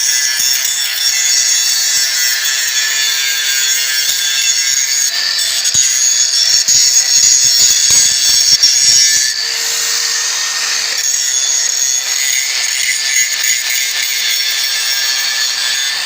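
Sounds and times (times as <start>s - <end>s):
angle grinder grinding steel: 0.0s - 16.0s.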